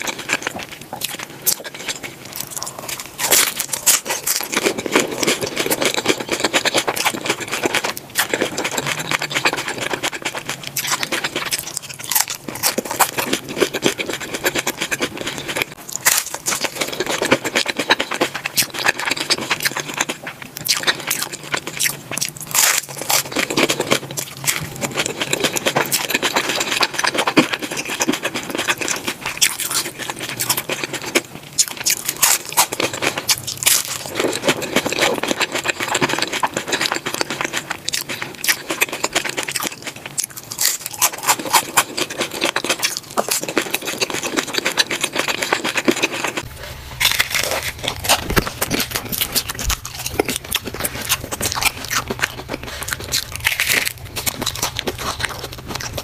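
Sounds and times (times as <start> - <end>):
crunchy tacos being chewed: 0.0 - 56.0.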